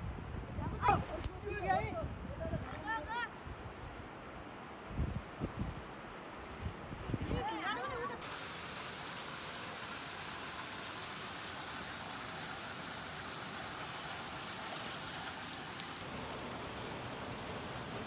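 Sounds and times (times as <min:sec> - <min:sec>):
stream water rushing over stones: 0:00.4 - 0:18.0.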